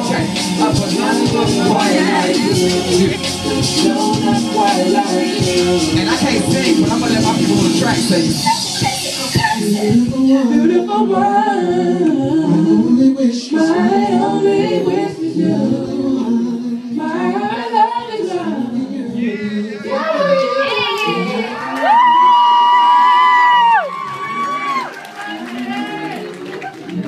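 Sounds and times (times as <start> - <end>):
person singing: 0.0 - 22.6.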